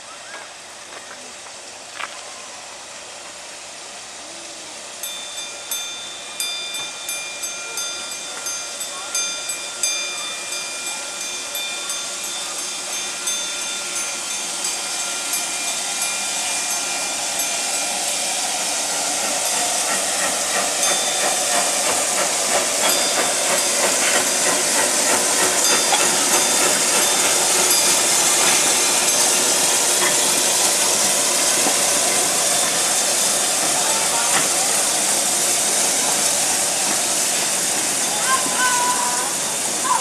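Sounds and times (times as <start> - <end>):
steam locomotive passing: 0.0 - 40.0.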